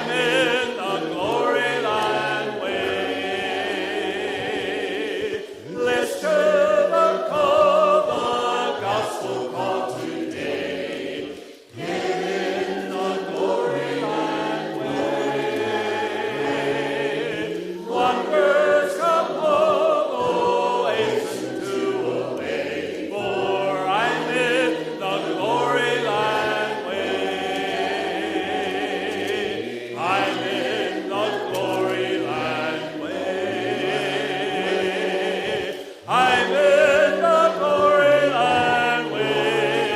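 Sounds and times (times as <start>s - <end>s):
group singing worship songs: 0.0s - 39.9s.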